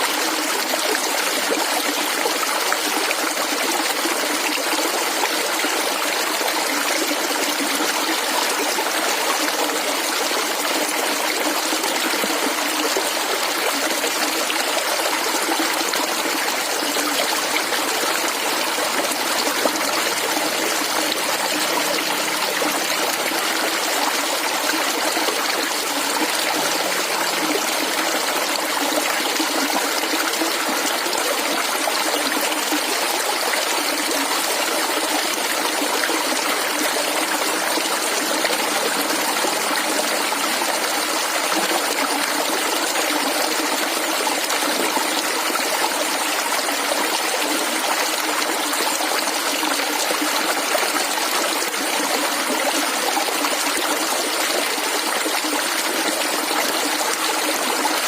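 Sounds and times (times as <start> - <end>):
water babbling over stones: 0.0 - 58.0.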